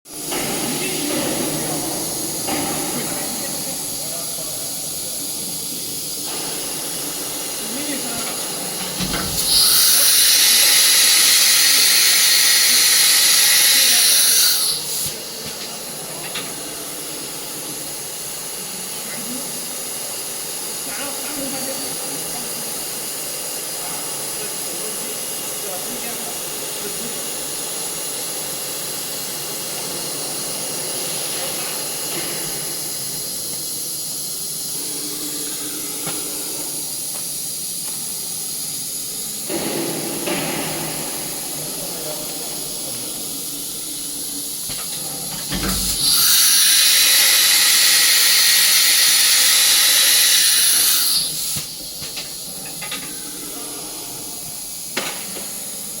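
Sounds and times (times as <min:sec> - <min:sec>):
cnc machine hissing and whining: 0:00.1 - 0:56.0
compressed air blast hissing: 0:00.2 - 0:16.0, 0:26.6 - 0:56.0.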